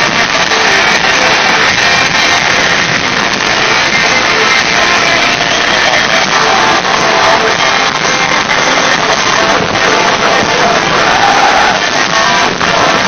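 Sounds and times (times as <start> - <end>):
loud dense electric guitars: 0.0 - 13.0
metal band playing live: 0.0 - 13.0.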